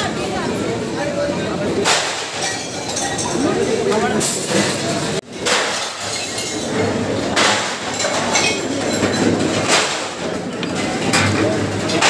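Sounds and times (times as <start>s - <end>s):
crowd noise: 0.0s - 12.0s
metal plates and utensils clinking: 1.8s - 12.0s.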